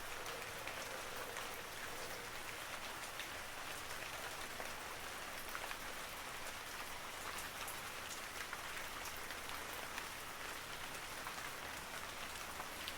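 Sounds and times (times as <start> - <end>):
raindrops ticking on a surface: 0.0 - 12.9
steady rain falling: 0.0 - 12.9.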